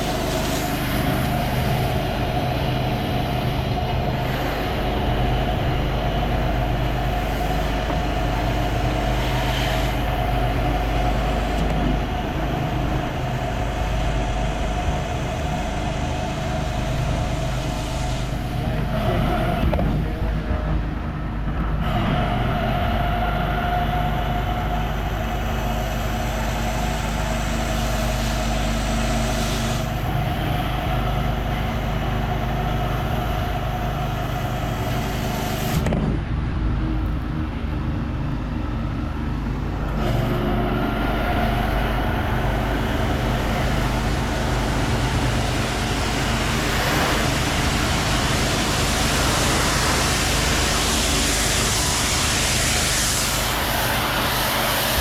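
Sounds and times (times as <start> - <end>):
spray hissing: 0.0 - 19.0, 23.1 - 35.8, 40.8 - 55.0
pressure washer engine drone: 0.0 - 55.0.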